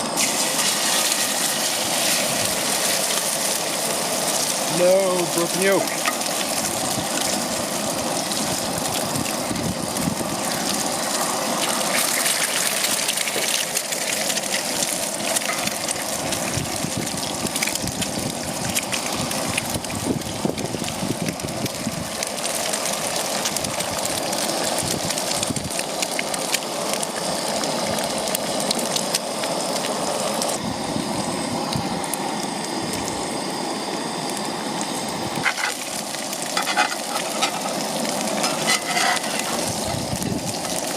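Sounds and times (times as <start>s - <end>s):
eggs sizzling in skillet: 0.0s - 30.6s, 31.4s - 40.9s
grease popping: 0.0s - 40.9s.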